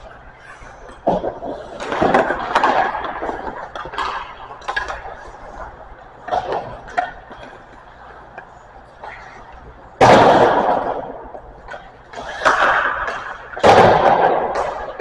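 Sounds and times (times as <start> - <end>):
hockey puck cracks echoing: 0.0 - 15.0.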